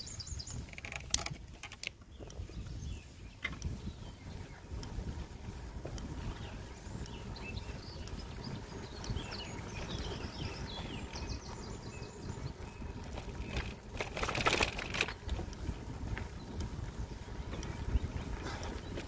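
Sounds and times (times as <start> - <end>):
songbirds chirping: 0.0 - 19.0
wind rumble on microphone: 0.0 - 19.0.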